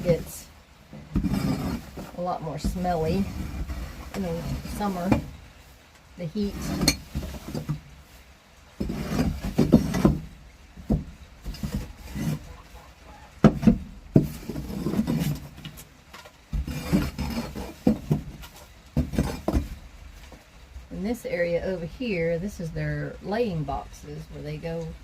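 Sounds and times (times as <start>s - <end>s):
scraping and rustling: 0.0s - 21.4s.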